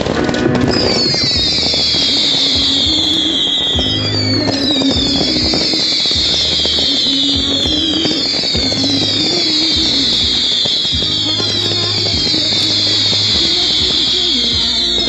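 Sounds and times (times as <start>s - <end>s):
fireworks crackling and banging: 0.0s - 15.0s
high falling firework whistle: 0.0s - 15.0s
music: 0.0s - 15.0s.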